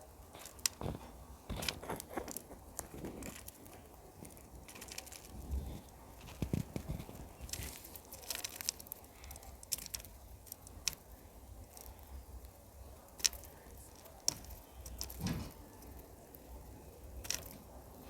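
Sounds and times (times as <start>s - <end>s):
bird cracking seeds: 0.3s - 18.0s.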